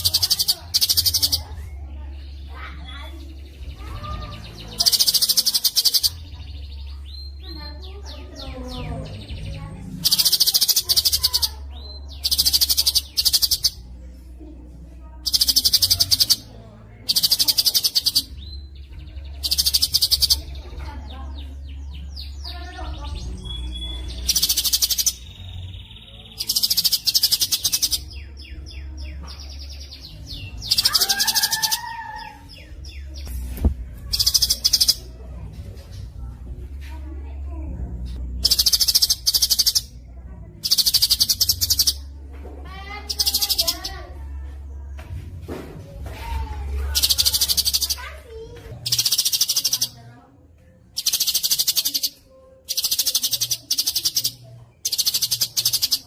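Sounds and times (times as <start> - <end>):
bird trilling song: 0.0 - 14.3, 15.2 - 36.2, 38.0 - 44.6, 46.0 - 50.1, 50.9 - 56.0.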